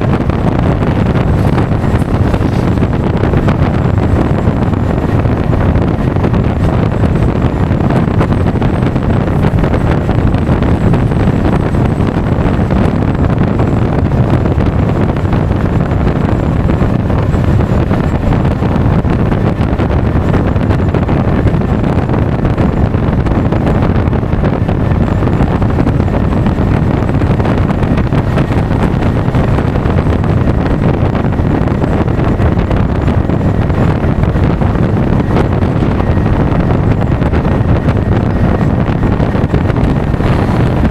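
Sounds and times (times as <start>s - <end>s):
road noise: 0.0s - 40.9s
wind rushing over microphone: 0.0s - 40.9s.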